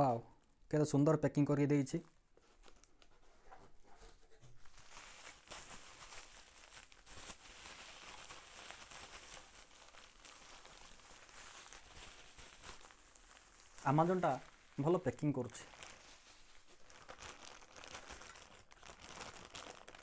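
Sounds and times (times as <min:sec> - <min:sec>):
plastic packaging crinkling: 0:01.5 - 0:20.0.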